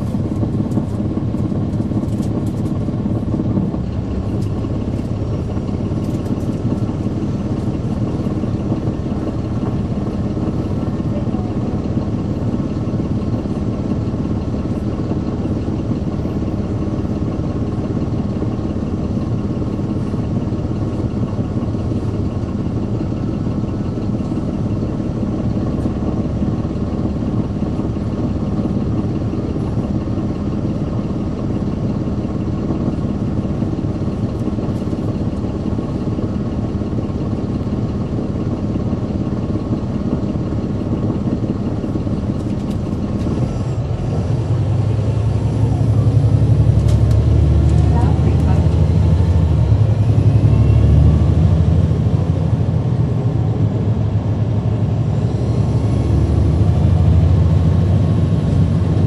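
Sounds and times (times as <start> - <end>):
diesel bus engine running: 0.0 - 59.0.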